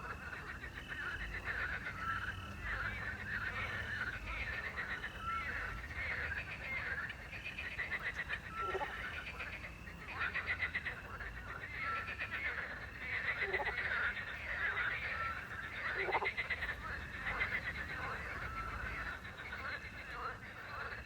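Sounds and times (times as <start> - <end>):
frogs croaking in chorus: 0.0 - 21.0.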